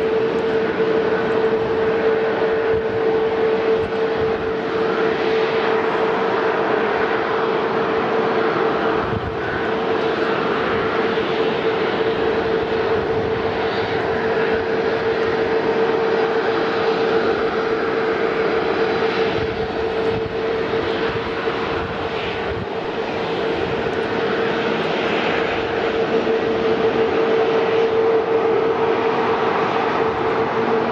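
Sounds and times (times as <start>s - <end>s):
jet engines rushing: 0.0s - 30.9s.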